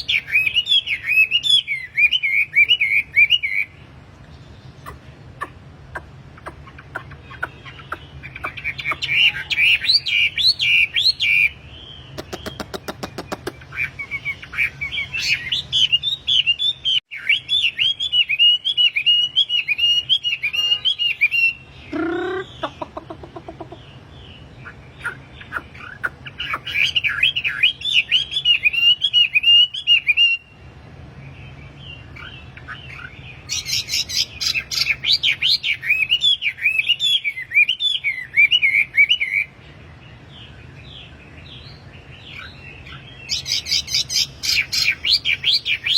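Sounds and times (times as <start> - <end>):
songbird chattering song: 0.0 - 45.9.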